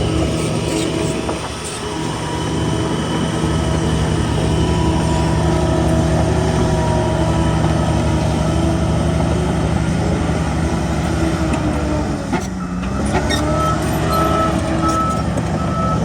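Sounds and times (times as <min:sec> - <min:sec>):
heavy diesel engine under load: 0:00.0 - 0:16.0.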